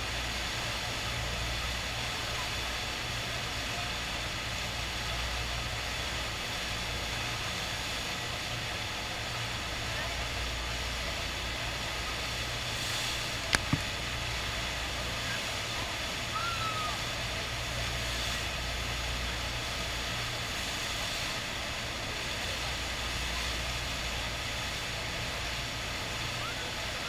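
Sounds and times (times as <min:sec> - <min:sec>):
rushing water over surface: 0:00.0 - 0:27.0.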